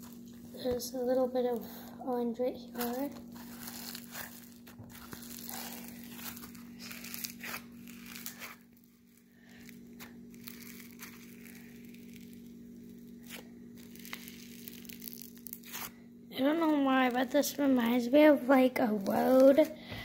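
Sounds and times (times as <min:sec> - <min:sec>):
foam slime crackling: 0:00.0 - 0:19.8
low hum: 0:00.0 - 0:20.0.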